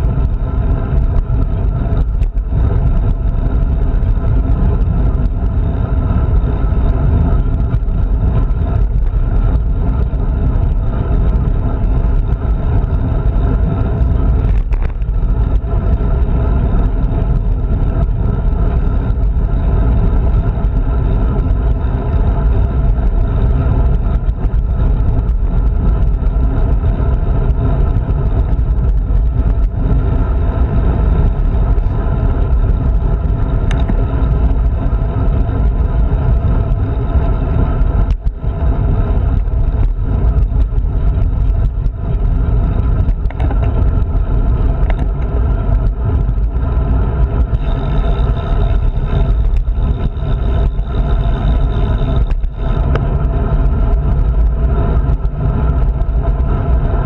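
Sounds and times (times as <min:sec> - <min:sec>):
road rumble: 0:00.0 - 0:57.0
wind buffeting microphone: 0:00.0 - 0:57.0.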